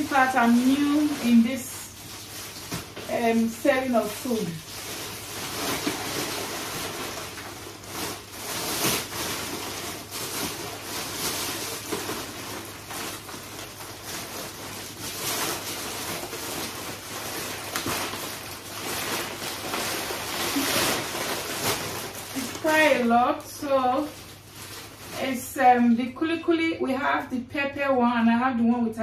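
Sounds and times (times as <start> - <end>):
plastic bags rustling: 0.0 - 26.6.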